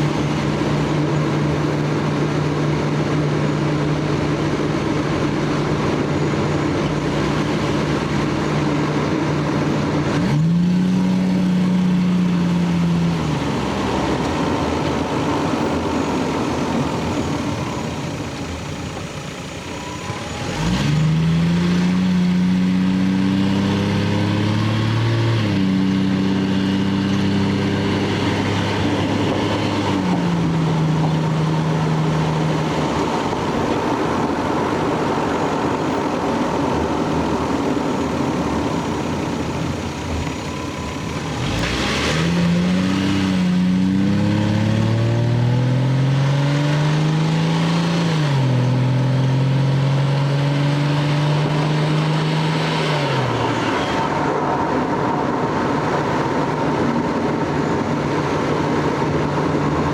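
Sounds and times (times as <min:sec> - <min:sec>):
car engine and exhaust accelerating: 0:00.0 - 0:59.9.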